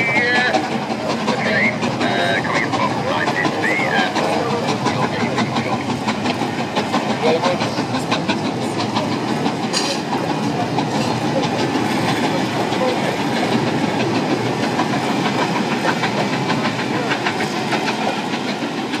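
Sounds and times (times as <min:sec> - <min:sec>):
train wheels clacking on rails: 0:00.0 - 0:19.0.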